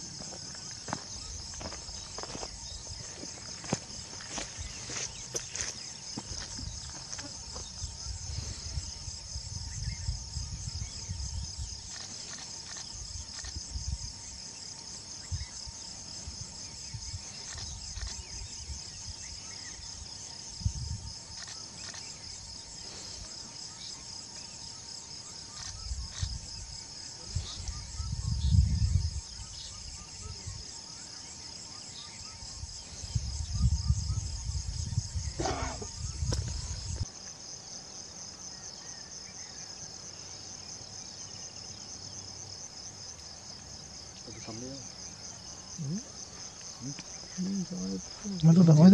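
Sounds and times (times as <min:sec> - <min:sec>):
night insects trilling: 0:00.0 - 0:48.9.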